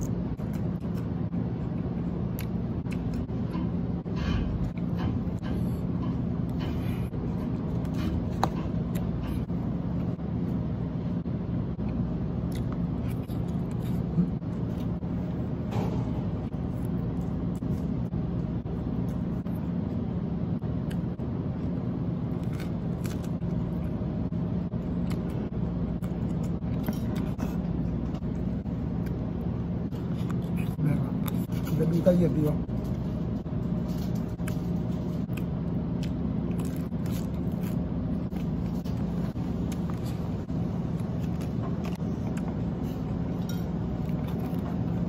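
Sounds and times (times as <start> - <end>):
chewing vegetables: 0.0 - 10.2, 11.8 - 15.7, 16.4 - 45.0
machine hum: 0.0 - 45.0.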